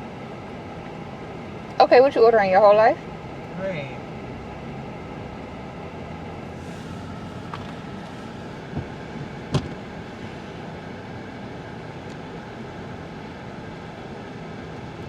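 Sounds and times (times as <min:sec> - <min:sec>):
background rumble and hum: 0:00.0 - 0:15.0.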